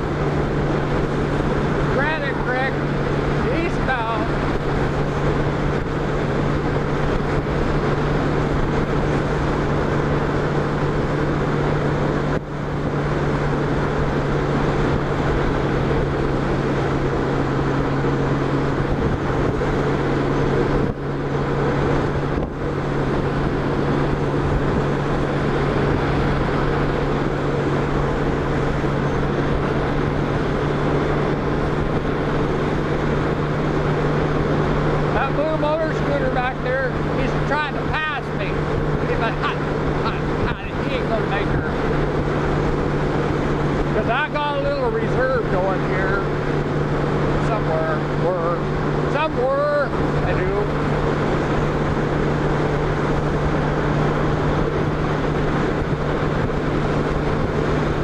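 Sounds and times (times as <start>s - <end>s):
motorcycle engine drone: 0.0s - 58.0s
wind noise: 0.0s - 58.0s.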